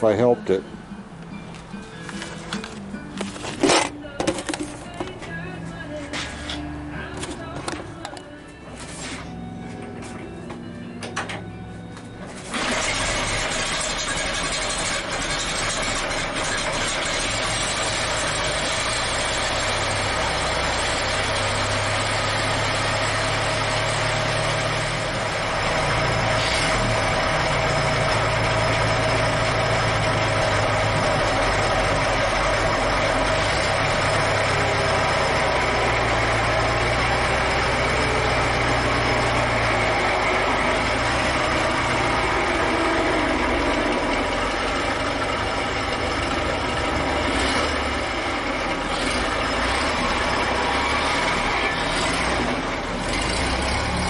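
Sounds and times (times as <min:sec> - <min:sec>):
car engine idling: 0:09.3 - 0:54.0.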